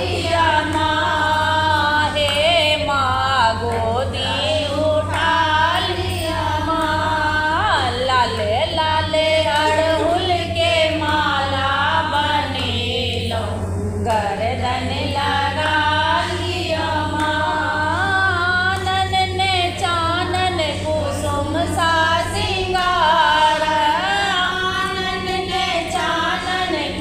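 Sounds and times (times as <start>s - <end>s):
women singing a devotional song: 0.0s - 27.0s.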